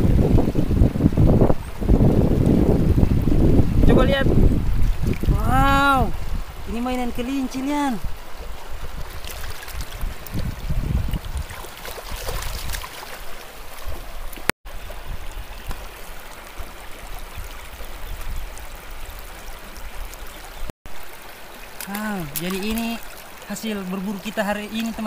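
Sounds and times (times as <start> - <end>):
water splashing: 1.8 - 25.0
river water rushing over stones: 4.8 - 25.0.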